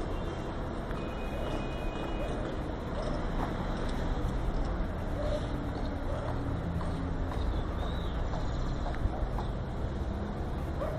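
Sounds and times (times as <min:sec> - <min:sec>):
vehicle engine rumble: 0:00.0 - 0:10.9.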